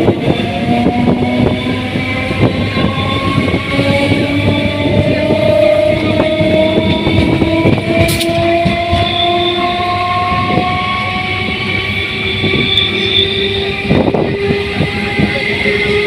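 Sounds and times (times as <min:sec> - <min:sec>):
electric train whine: 0:00.0 - 0:16.0.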